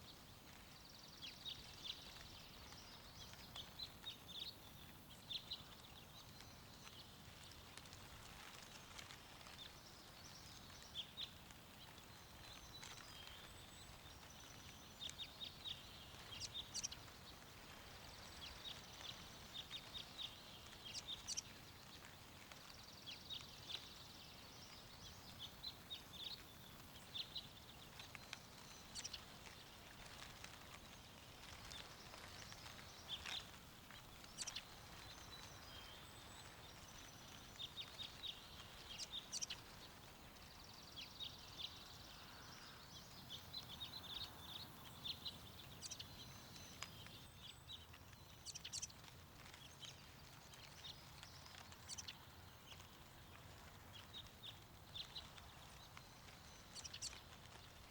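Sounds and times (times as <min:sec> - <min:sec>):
faint wind: 0:00.0 - 0:57.9
songbirds chirping: 0:00.0 - 0:57.9.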